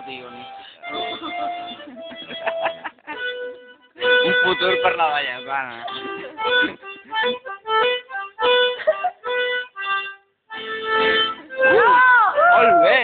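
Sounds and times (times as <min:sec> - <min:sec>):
accordion chords: 0:00.0 - 0:13.0.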